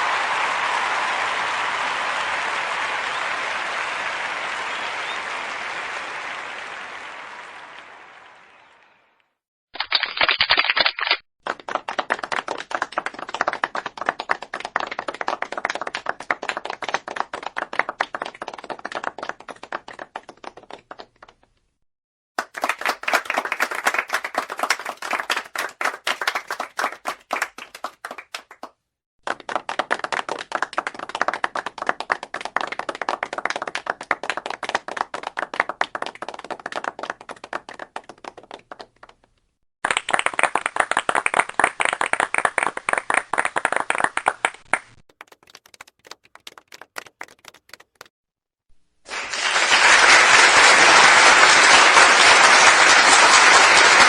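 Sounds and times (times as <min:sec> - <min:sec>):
people clapping: 0:00.0 - 0:09.4, 0:11.0 - 0:21.6, 0:22.4 - 0:48.1, 0:49.1 - 0:54.0.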